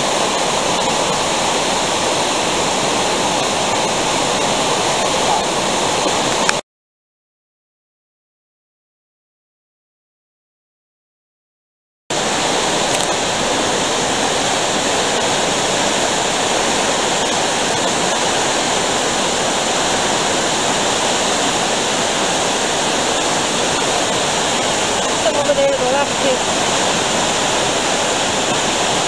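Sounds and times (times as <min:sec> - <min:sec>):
flowing water rushing: 0:00.0 - 0:06.6, 0:12.1 - 0:29.0.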